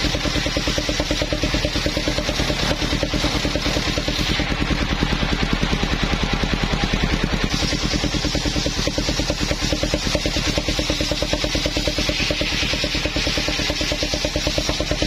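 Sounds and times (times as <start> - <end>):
hiss: 0.0 - 4.7, 7.4 - 15.0
sawmill engine running: 0.0 - 15.0.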